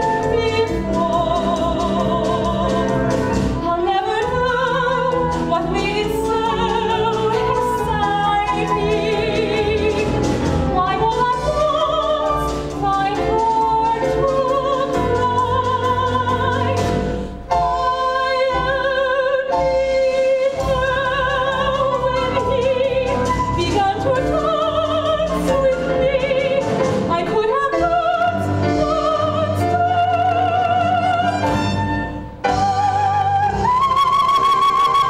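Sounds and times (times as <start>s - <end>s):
woman singing operatically: 0.0s - 17.0s, 17.7s - 31.5s, 32.5s - 35.0s
orchestra accompaniment: 0.0s - 35.0s.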